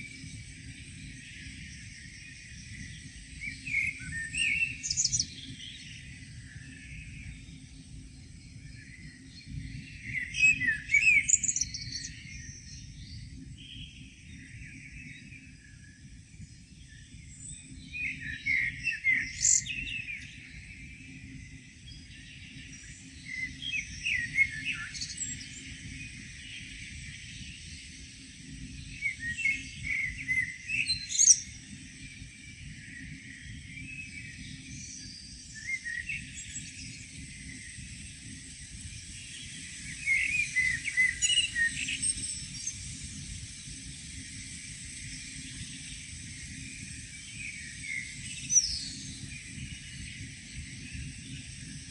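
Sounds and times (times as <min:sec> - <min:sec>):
songbirds singing and chirping: 0:00.0 - 0:51.9.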